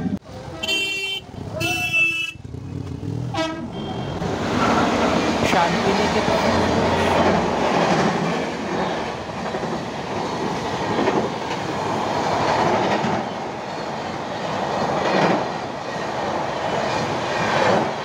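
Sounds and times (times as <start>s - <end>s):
train wheels rumbling over bridge: 2.4s - 18.0s.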